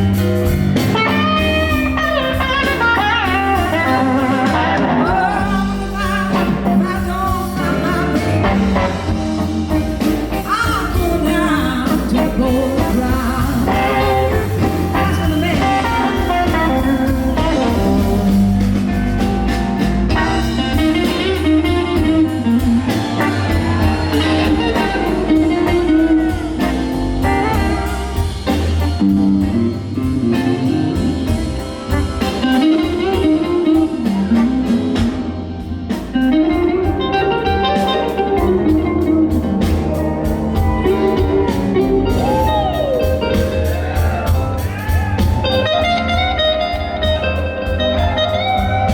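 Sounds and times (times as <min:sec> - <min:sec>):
bass and drums: 0:00.0 - 0:48.9
electric guitar solo: 0:00.0 - 0:48.9.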